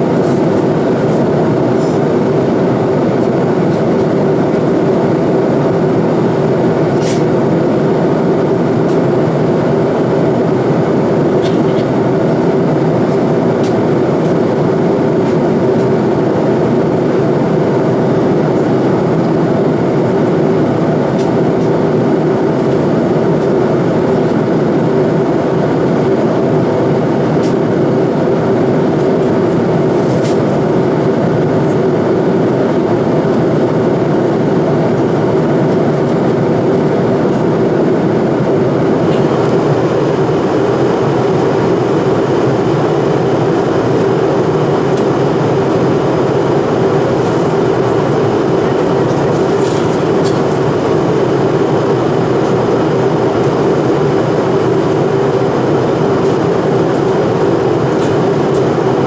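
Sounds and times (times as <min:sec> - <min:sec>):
airplane cabin roar: 0:00.0 - 0:59.0.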